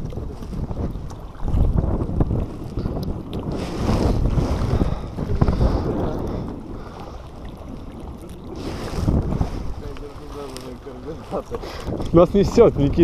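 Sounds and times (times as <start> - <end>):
water splashing against boat: 0.0 - 13.0
wind buffeting microphone: 0.0 - 13.0.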